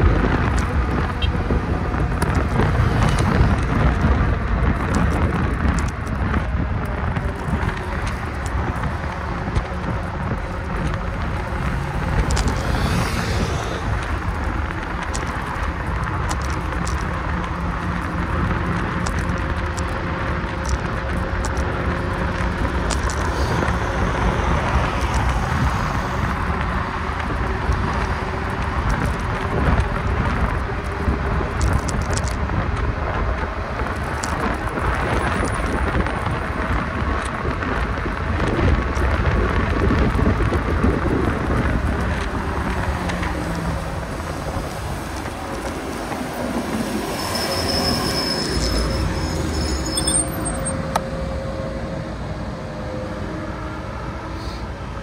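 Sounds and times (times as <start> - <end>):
low rumble of travel: 0.0 - 55.0
wind buffeting microphone: 0.0 - 55.0.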